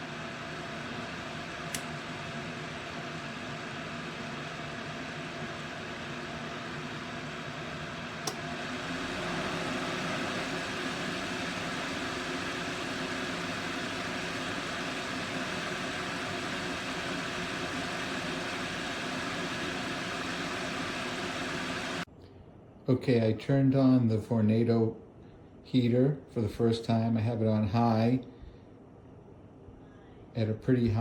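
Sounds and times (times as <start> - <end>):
space heater blower fan running: 0.0 - 31.0.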